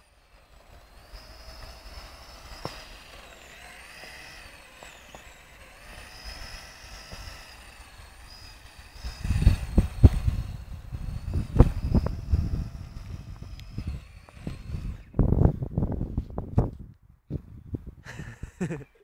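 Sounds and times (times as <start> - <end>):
electric motor whining: 0.0 - 15.6
low rumbling and thumps: 1.2 - 18.0.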